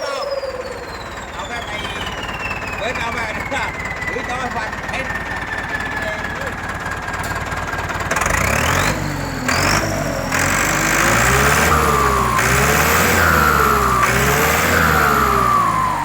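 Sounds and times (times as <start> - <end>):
turbo whistling: 0.0 - 16.0
turbocharged engine revving: 0.0 - 16.0.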